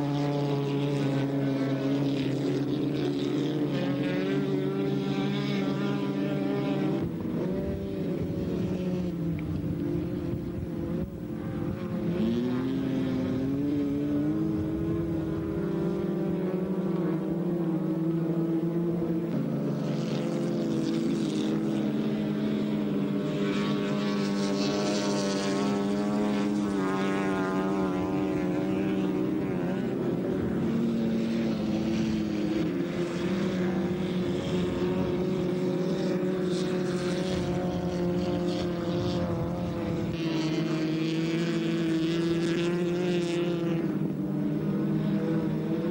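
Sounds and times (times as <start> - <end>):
racing car engines revving: 0.0 - 45.9.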